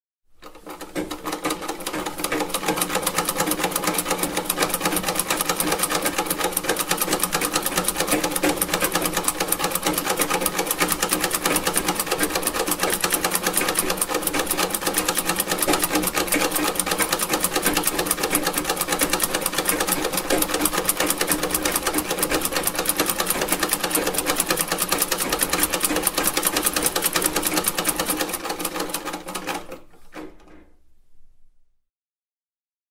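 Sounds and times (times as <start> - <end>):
sewing machine clattering: 0.4 - 30.8.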